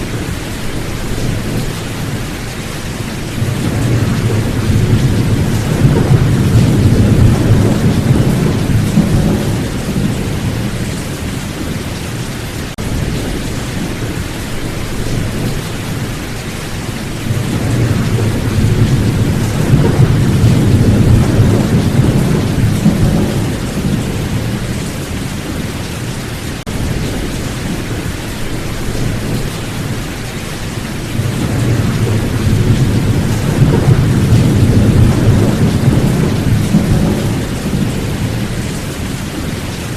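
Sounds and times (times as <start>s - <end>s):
low rolling thunder: 0.0s - 39.9s
steady rain: 0.0s - 39.9s.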